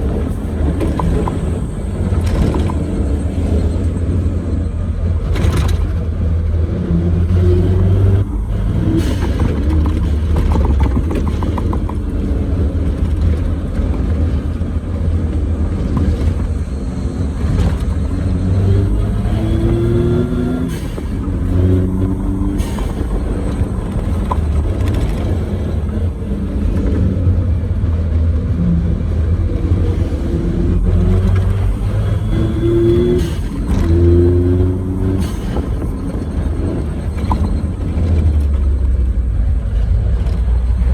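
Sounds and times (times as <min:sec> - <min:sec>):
car engine accelerating: 0:00.0 - 0:40.9
road and tyre rumble: 0:00.0 - 0:40.9.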